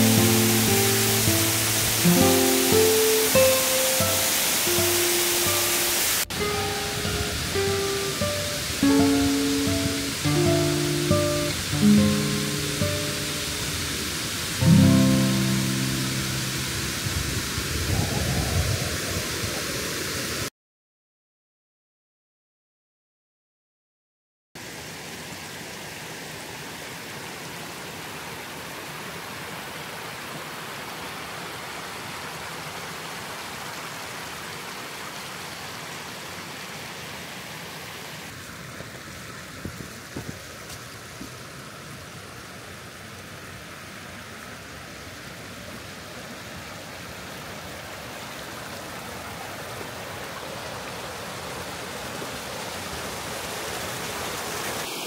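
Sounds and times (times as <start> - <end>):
waterfall rushing: 0.0 - 20.5, 24.6 - 55.0.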